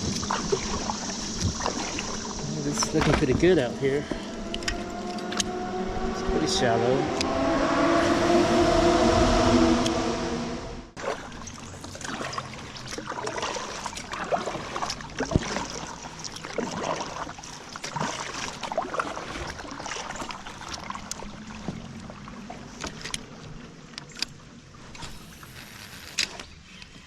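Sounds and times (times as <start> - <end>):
paddle splashes and drips: 0.0 - 5.7, 11.0 - 27.0.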